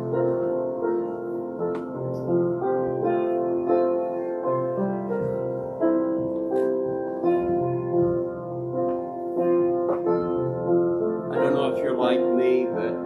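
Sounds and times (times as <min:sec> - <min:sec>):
slow keyboard melody: 0:00.0 - 0:13.0.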